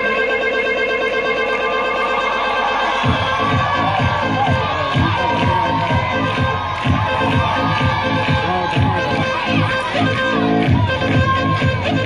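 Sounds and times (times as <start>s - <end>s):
dance music with heavy beat: 0.0s - 12.0s
audience cheering: 1.7s - 12.0s
children shouting: 2.1s - 12.0s.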